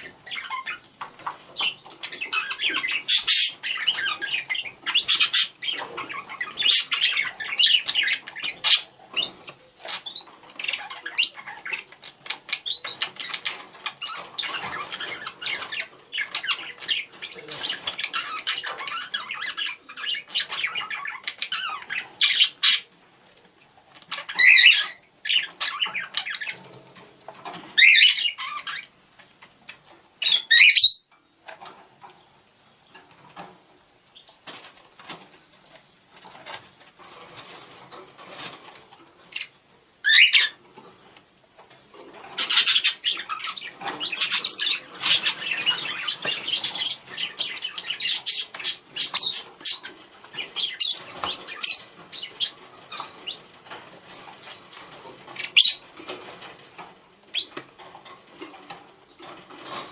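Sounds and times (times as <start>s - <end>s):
budgerigars chirping and warbling: 0.0s - 23.0s, 23.9s - 29.0s, 29.7s - 33.5s, 36.2s - 40.9s, 41.6s - 59.9s.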